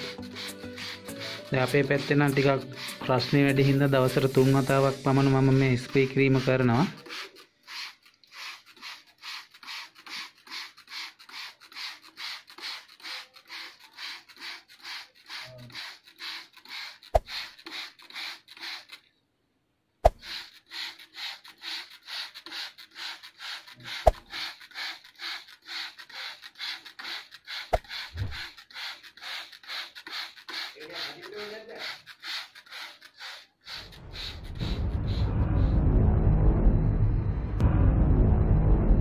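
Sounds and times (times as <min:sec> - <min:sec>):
spray bottle hissing: 0:00.0 - 0:19.1, 0:20.0 - 0:35.3.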